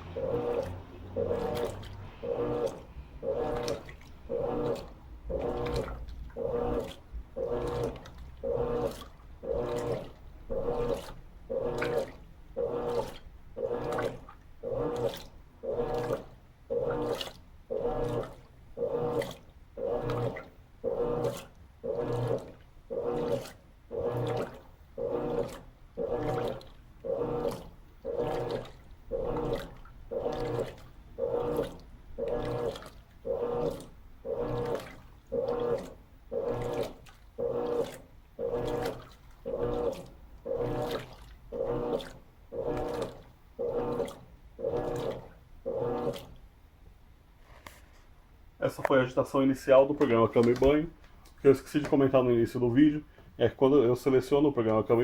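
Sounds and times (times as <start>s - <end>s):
washing machine agitator sloshing water: 0.0s - 47.1s, 48.7s - 55.0s.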